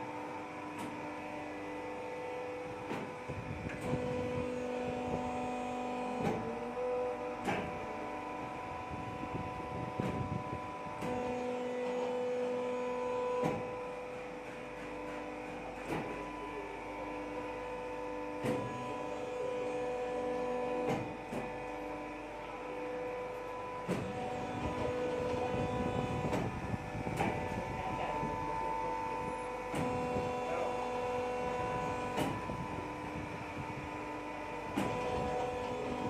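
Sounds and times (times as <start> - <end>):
hydraulic pump motor humming: 0.0 - 36.0.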